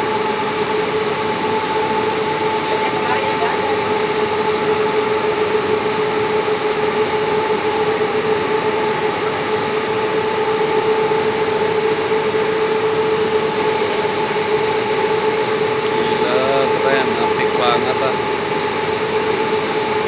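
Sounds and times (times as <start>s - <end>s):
machinery drone: 0.0s - 20.0s
mid-pitched hum: 0.0s - 20.0s.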